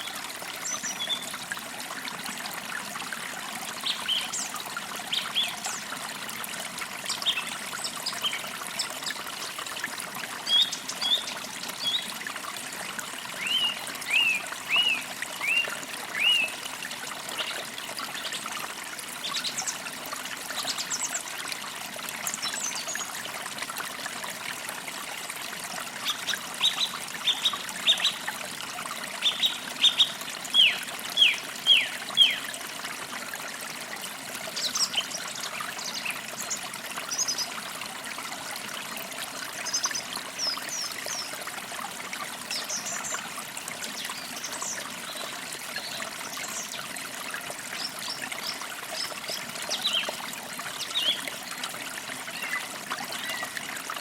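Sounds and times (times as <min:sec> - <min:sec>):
creek trickling over stones: 0:00.0 - 0:54.0.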